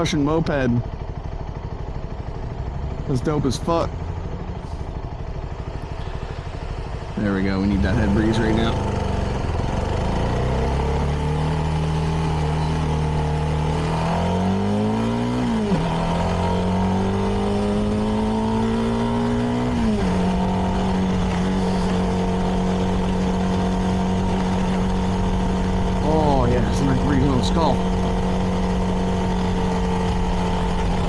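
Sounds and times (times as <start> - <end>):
motorcycle engine revving through gears: 0.0 - 31.0.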